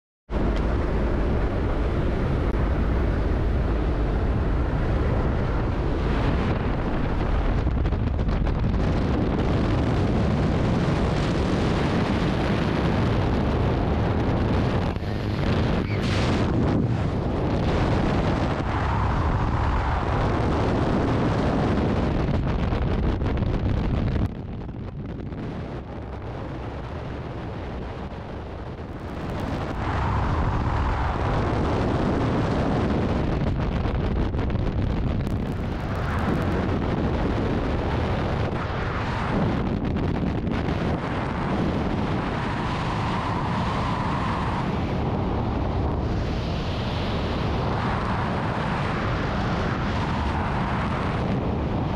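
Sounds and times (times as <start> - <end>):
wind blasting over microphone: 0.3 - 51.9.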